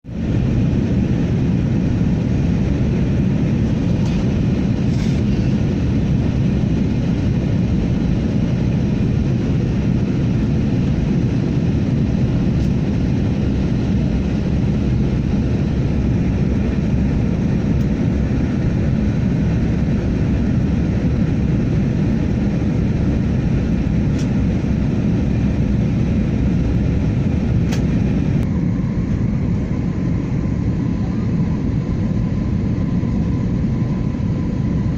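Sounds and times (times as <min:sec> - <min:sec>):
jet engines and rushing airflow: 0:00.0 - 0:34.9.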